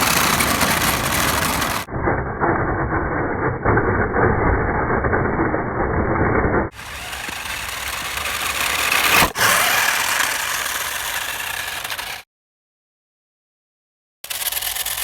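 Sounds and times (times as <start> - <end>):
vehicle engine driving: 0.0 - 12.2.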